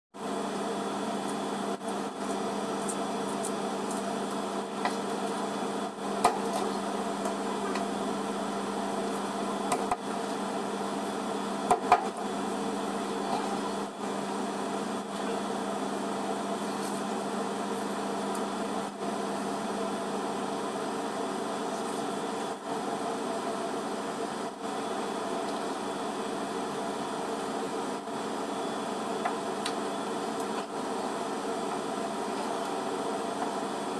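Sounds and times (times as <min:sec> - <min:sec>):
mechanical hum: 0:00.2 - 0:33.9.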